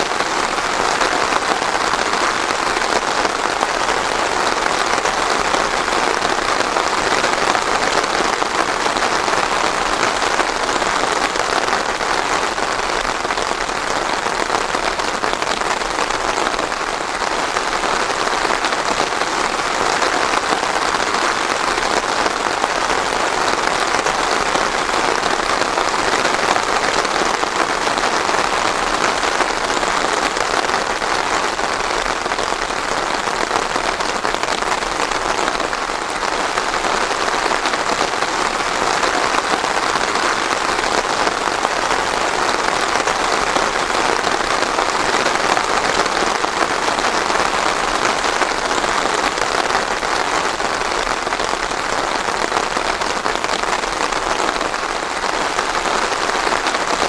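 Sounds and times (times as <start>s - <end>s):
rain pattering on a surface: 0.0s - 57.0s.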